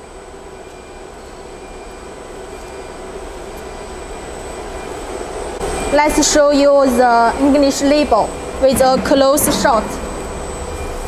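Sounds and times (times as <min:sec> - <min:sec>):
factory machine hum and hiss: 0:00.0 - 0:11.0
thin high whine: 0:00.0 - 0:11.0.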